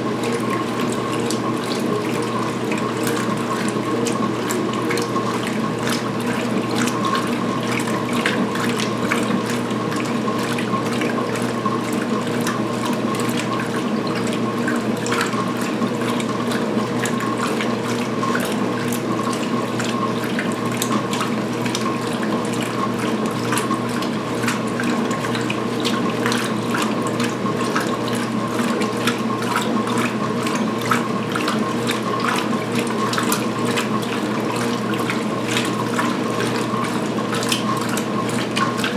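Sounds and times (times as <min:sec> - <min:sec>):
washer drive humming: 0:00.0 - 0:38.9
water sloshing in washer tub: 0:00.0 - 0:38.9.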